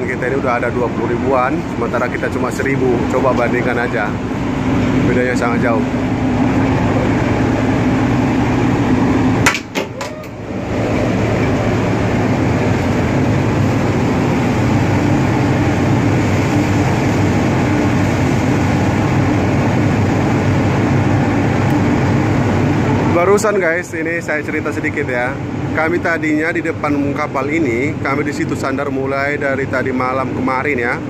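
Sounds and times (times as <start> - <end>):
ship engine droning: 0.0 - 31.0.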